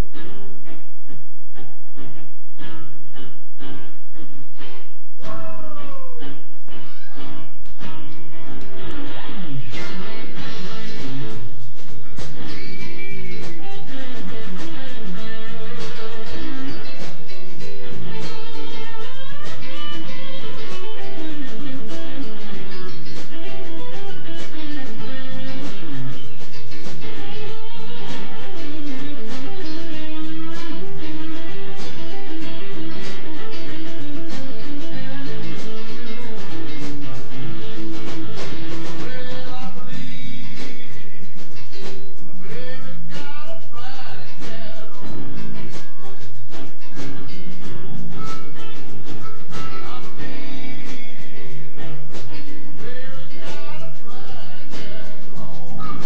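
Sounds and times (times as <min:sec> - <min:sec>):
electric guitar lead with bent notes: 0:00.0 - 0:56.0
live blues band playing: 0:05.8 - 0:56.0.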